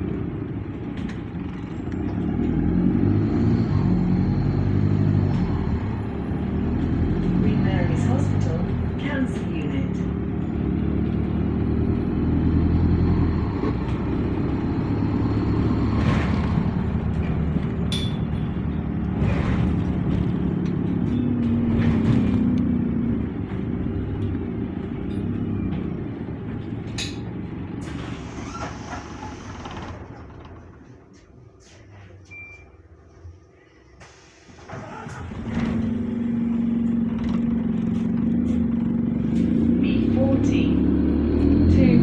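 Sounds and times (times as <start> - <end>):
bus diesel engine running: 0.0 - 42.0.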